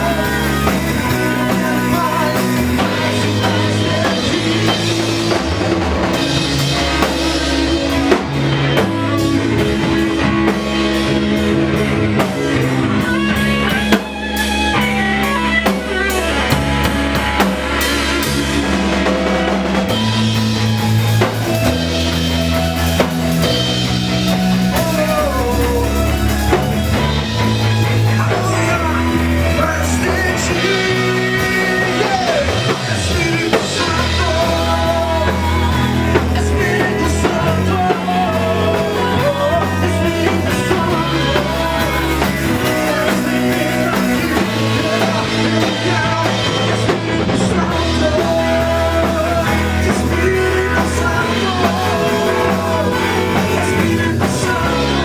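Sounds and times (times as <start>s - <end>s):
person singing: 0.0s - 14.0s, 17.8s - 55.0s
worship band playing: 0.0s - 55.0s.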